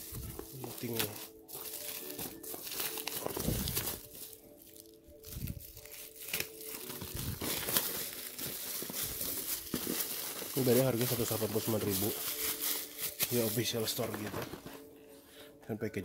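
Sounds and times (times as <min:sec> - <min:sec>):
plastic bag tearing and crinkling: 0:00.0 - 0:14.7.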